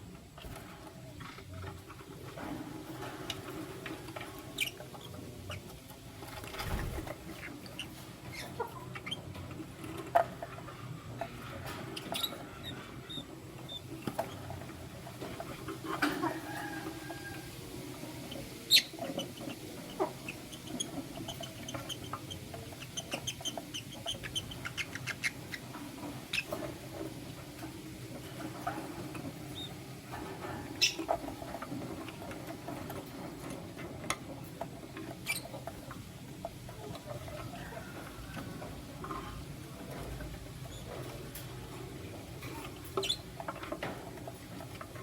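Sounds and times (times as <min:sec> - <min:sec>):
birds chirping and squeaking: 0:00.4 - 0:45.0.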